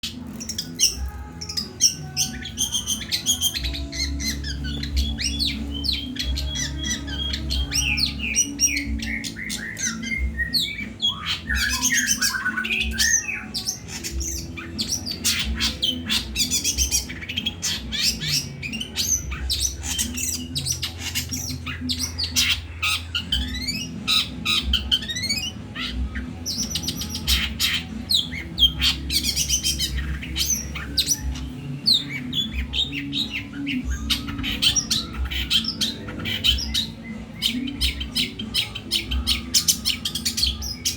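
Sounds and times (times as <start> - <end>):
shrike singing: 0.0 - 40.9.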